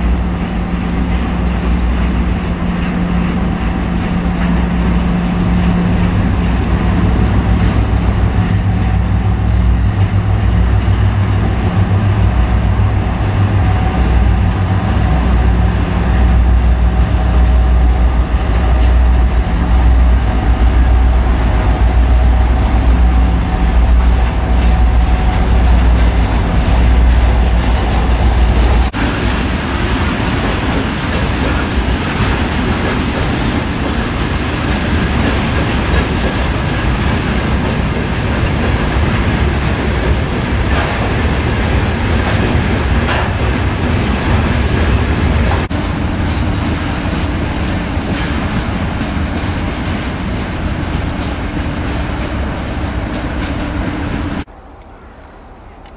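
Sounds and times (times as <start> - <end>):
train rolling on track: 0.0 - 55.0
diesel locomotive engine hum: 0.0 - 55.9.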